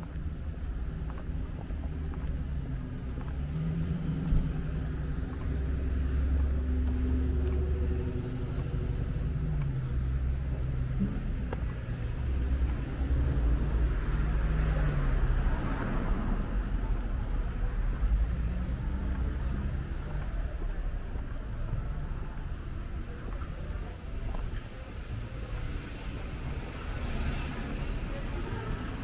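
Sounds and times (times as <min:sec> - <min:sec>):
car engines driving past: 0:00.0 - 0:29.0
low traffic rumble: 0:00.0 - 0:29.0.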